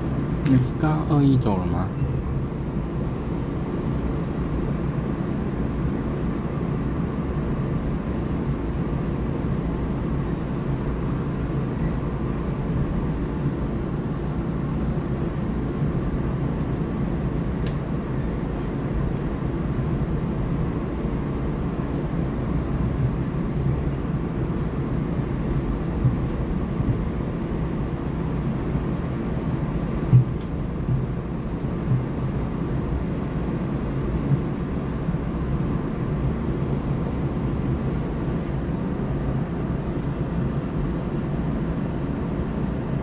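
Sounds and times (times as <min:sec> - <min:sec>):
train cabin running rumble: 0:00.0 - 0:43.0.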